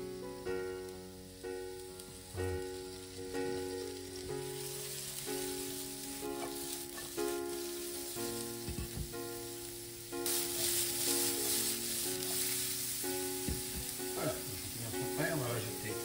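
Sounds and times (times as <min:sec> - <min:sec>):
background music sustained notes: 0:00.0 - 0:16.0
mushrooms sizzling in oil: 0:00.0 - 0:16.0.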